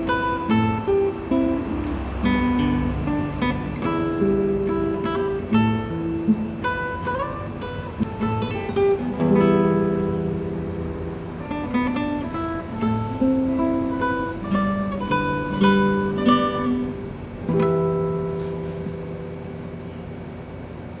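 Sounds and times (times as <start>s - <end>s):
acoustic guitar melody: 0.0s - 21.0s.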